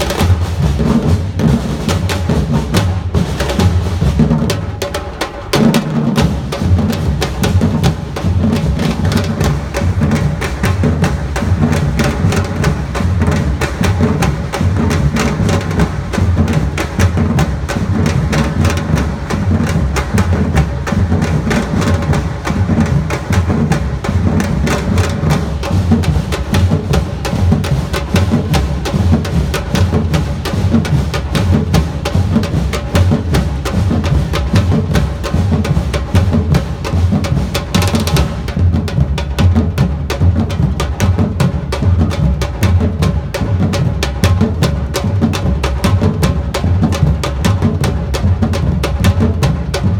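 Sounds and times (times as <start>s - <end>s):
percussion band playing: 0.0s - 49.9s.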